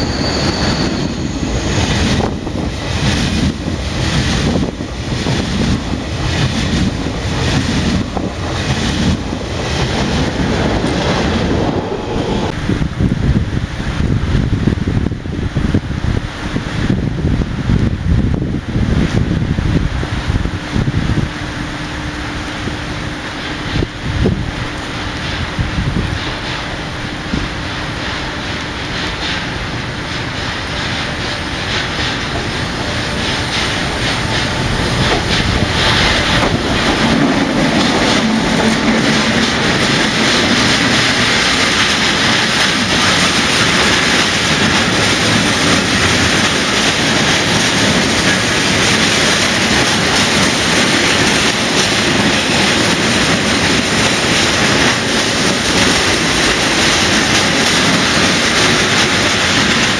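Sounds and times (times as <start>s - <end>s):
freight train wheels on rails: 0.0s - 59.9s.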